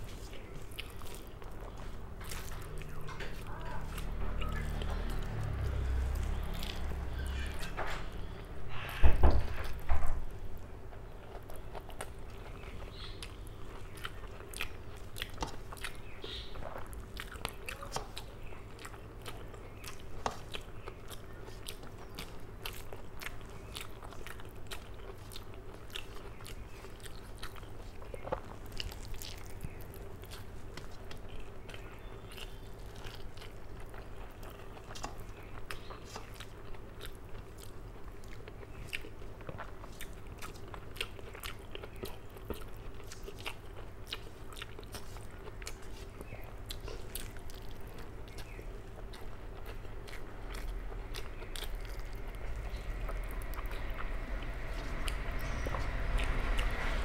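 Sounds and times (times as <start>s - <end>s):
chewing and wet mouth clicks: 10.9s - 57.0s.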